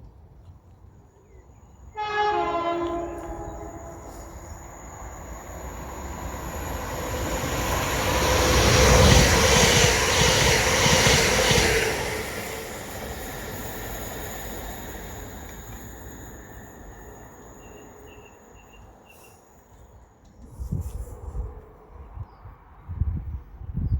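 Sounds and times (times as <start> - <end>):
train passing at speed: 1.5 - 23.0.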